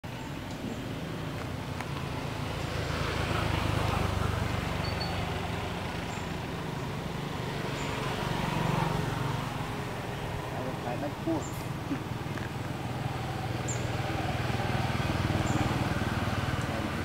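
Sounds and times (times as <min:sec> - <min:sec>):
passing road traffic rumble: 0:00.0 - 0:17.0.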